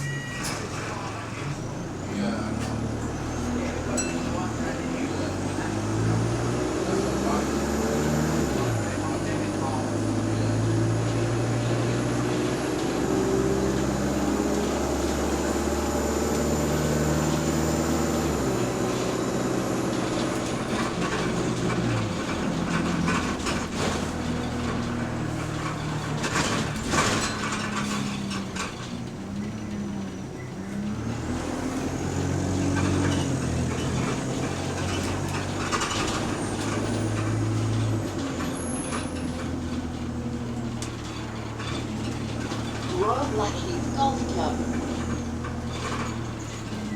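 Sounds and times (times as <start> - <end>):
bus engine and transmission: 0.0 - 46.9.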